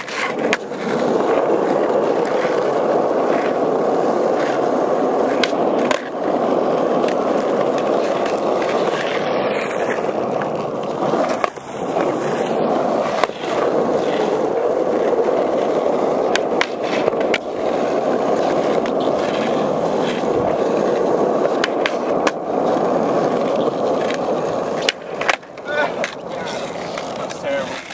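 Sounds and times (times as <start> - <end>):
skateboard clacking on ground: 0.0 - 27.9
skateboard wheels rolling on asphalt: 0.0 - 27.9.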